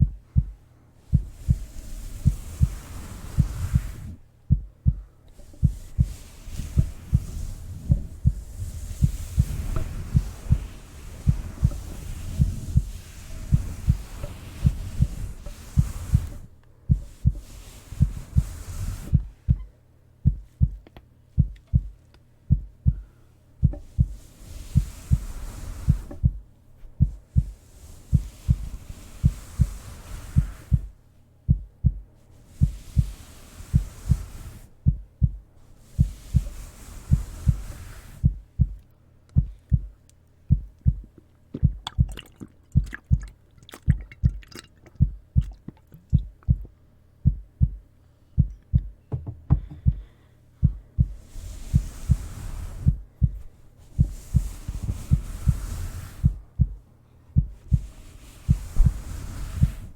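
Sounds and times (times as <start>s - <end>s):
heartbeat thumps: 0.0s - 29.8s, 30.4s - 59.9s
soft rushing hiss: 0.0s - 44.0s, 44.6s - 59.9s.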